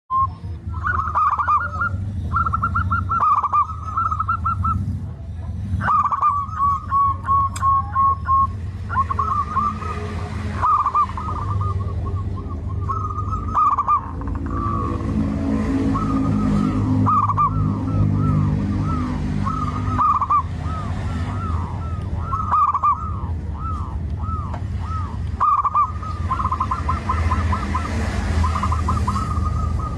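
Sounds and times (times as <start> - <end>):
doves cooing: 0.1 - 29.9
steady low hum: 0.1 - 29.9.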